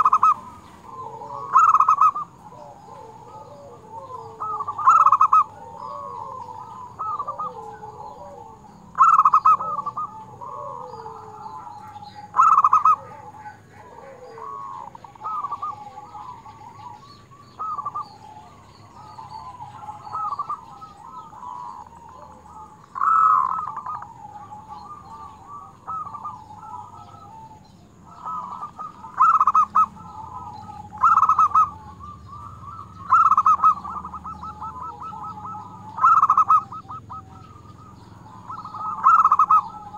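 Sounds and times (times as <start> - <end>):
doves cooing: 0.0 - 39.9
loud staccato dove calls: 0.0 - 39.9.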